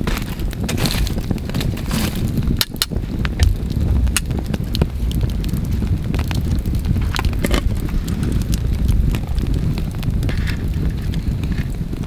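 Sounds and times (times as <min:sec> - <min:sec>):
fire low rumble: 0:00.0 - 0:12.0
wood fire crackling and popping: 0:00.0 - 0:12.0.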